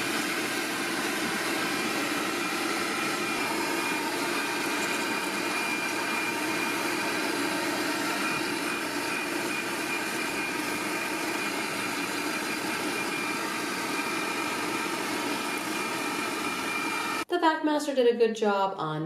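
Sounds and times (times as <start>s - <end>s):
shop vacuum running: 0.0s - 17.3s.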